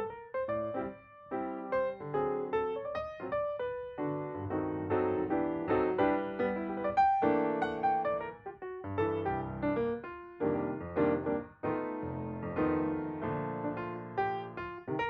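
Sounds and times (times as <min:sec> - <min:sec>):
gentle solo piano melody: 0:00.0 - 0:15.0.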